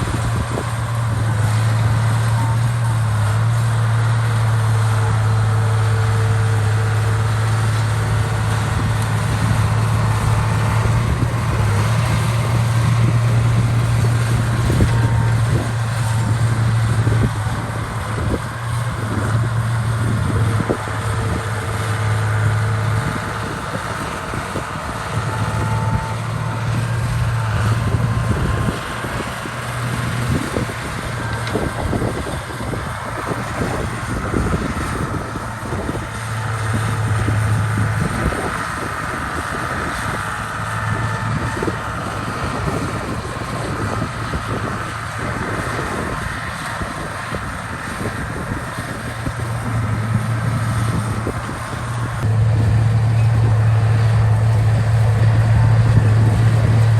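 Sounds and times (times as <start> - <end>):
heavy machinery diesel engine: 0.0 - 56.9.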